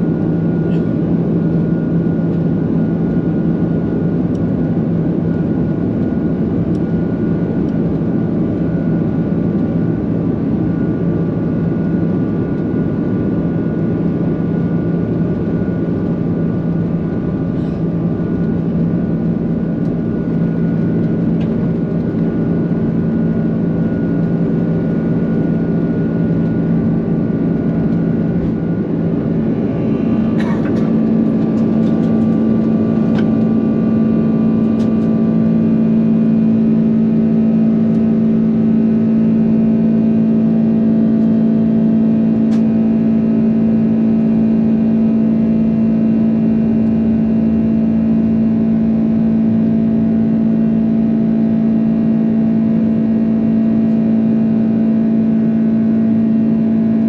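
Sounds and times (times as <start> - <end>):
jet engines humming and whining: 0.0 - 57.0.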